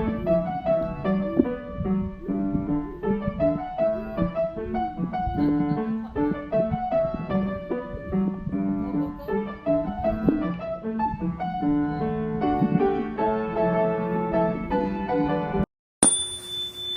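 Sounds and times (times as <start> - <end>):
piano music: 0.0 - 15.7.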